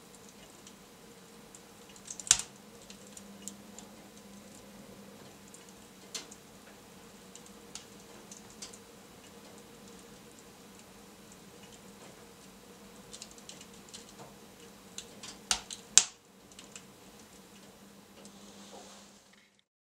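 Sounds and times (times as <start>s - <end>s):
wood fire crackling: 0.0s - 19.6s.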